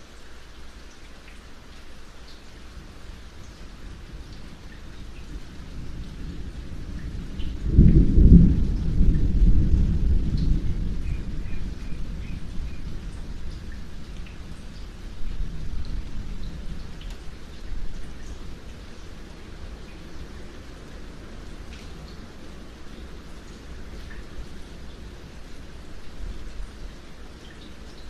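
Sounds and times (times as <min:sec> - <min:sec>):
steady rain: 0:00.0 - 0:28.0
water drips: 0:00.0 - 0:28.0
thunder rumbling: 0:03.7 - 0:27.0.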